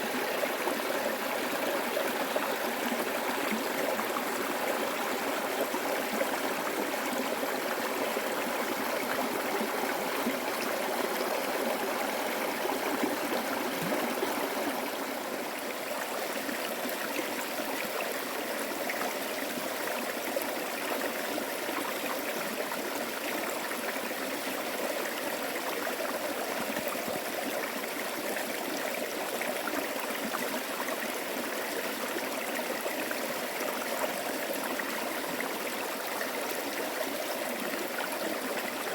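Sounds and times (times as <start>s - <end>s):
stream water rushing and trickling: 0.0s - 38.9s.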